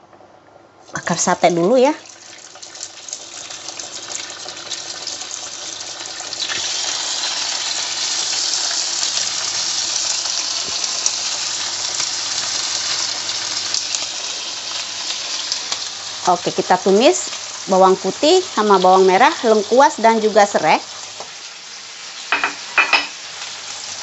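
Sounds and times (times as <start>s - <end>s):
skewers sizzling in hot oil: 0.9s - 24.0s.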